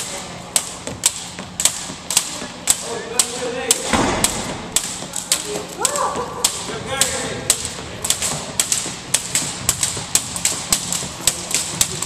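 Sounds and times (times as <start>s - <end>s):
jump ropes slapping wooden floor: 0.0s - 12.0s.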